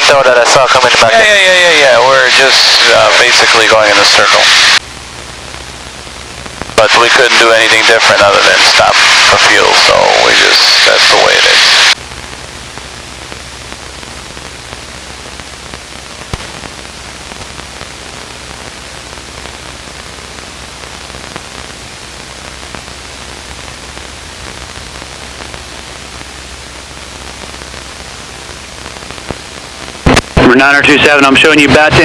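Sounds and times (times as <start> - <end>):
radio intercom hiss: 0.0 - 4.8, 6.4 - 12.0, 13.7 - 32.0.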